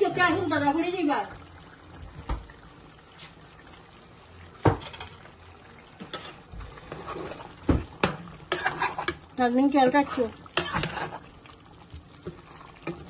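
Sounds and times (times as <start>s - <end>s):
simmering pot hiss: 0.0s - 13.0s.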